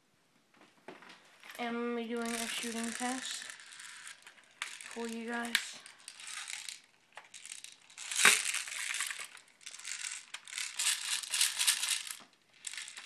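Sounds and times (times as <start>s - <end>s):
plastic bbs rattling and spilling: 1.5s - 13.0s.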